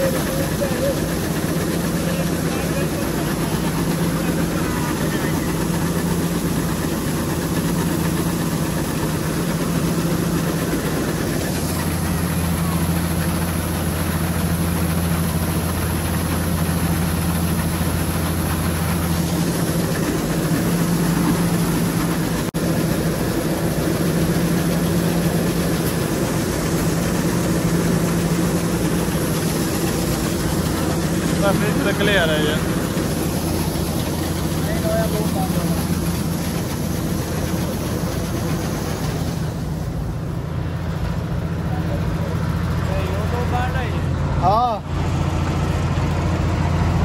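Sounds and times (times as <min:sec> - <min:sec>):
combine harvester engine humming: 0:00.0 - 0:47.0.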